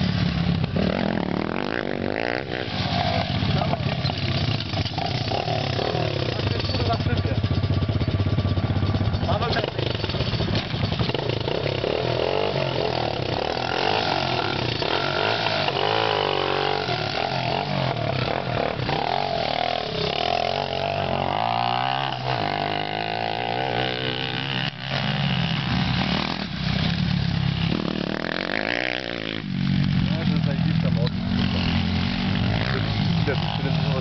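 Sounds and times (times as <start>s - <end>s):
motocross bike engines revving: 0.0s - 34.0s.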